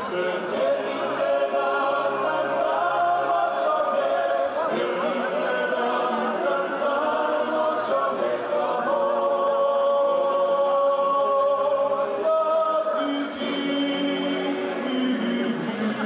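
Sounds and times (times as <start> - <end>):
men singing a cappella harmony: 0.0 - 16.0.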